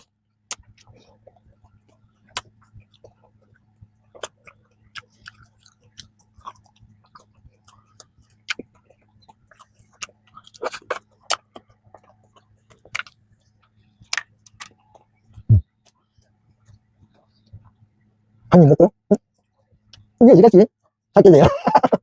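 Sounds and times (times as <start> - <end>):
chewing with mouth clicks: 0.0 - 17.9, 19.1 - 20.2
faint low hum: 0.0 - 22.0.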